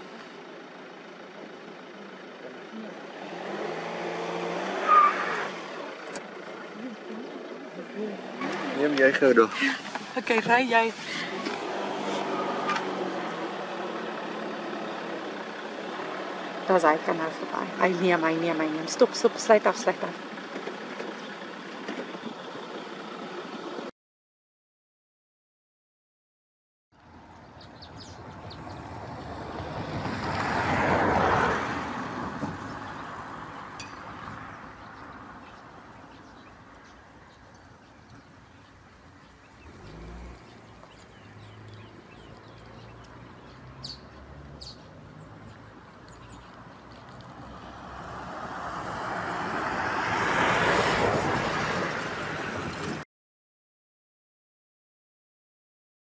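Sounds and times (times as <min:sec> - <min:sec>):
vehicle passing on road: 0:00.0 - 0:23.9, 0:27.0 - 0:53.0.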